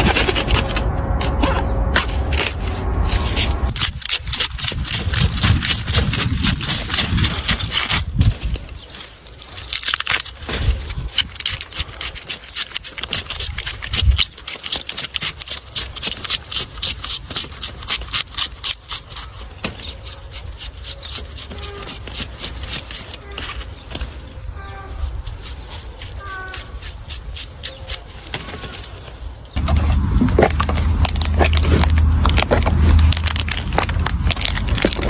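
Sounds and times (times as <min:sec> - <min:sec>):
rapid scraping strokes: 0:00.0 - 0:24.3, 0:24.9 - 0:29.0.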